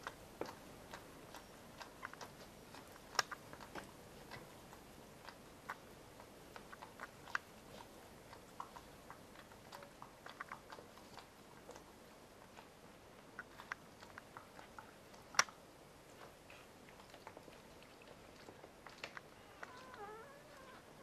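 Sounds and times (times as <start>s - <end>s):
puppies suckling wet clicks: 0.0s - 21.0s.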